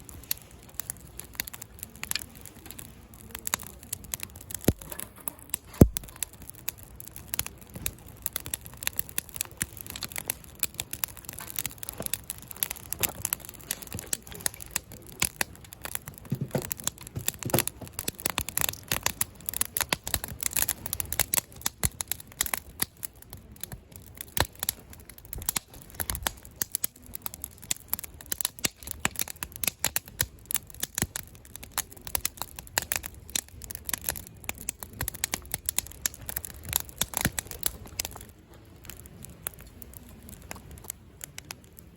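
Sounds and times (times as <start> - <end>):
burning wood popping: 0.0 - 41.9
campfire crackling: 0.0 - 41.9.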